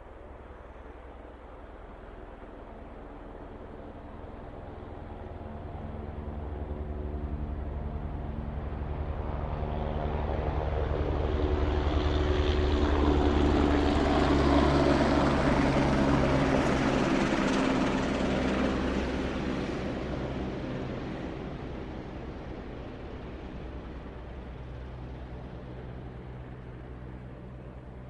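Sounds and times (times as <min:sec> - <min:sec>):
helicopter passing overhead: 0:00.0 - 0:28.0.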